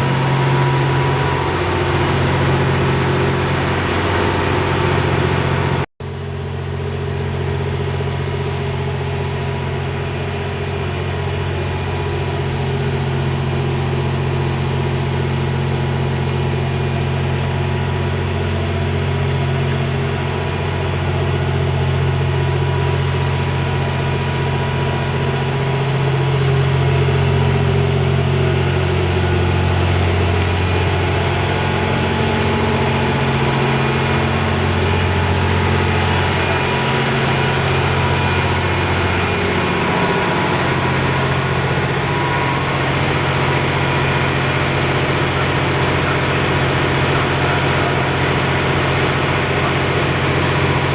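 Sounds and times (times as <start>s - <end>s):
train diesel engines idling: 0.0s - 50.9s.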